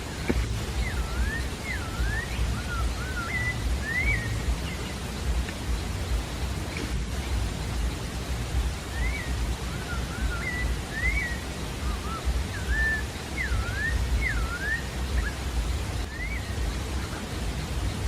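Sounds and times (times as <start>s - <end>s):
low background rumble: 0.0s - 18.0s
thrush singing whistles: 0.0s - 18.0s.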